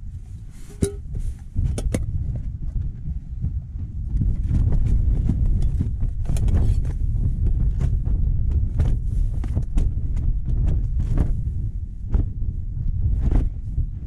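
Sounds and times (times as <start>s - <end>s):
wind buffeting: 0.0s - 14.0s.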